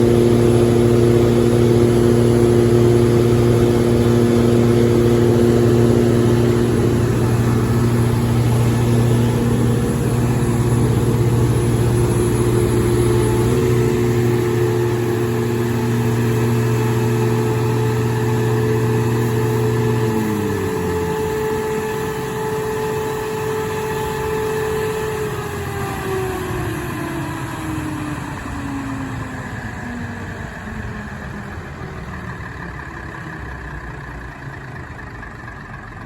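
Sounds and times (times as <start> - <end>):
diesel generator humming: 0.0 - 36.0.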